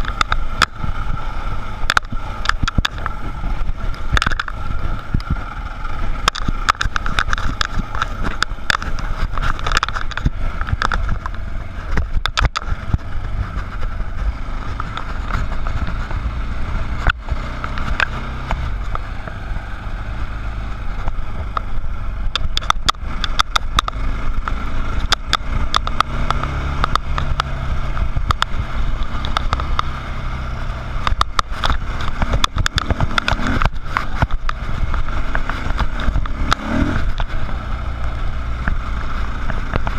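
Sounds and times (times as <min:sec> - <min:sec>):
bike knocks and rattles: 0:00.0 - 0:19.4, 0:20.9 - 0:39.9
dirt bike engine running: 0:00.0 - 0:39.9.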